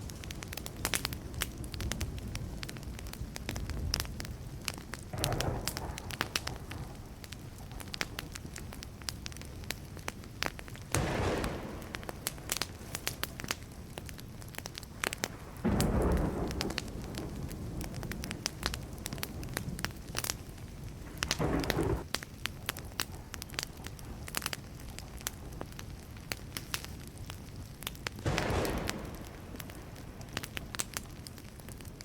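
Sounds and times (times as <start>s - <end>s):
low rumbles of thunder: 0.0s - 9.4s, 10.7s - 24.4s, 28.2s - 32.0s
wood fire crackling: 0.0s - 32.0s.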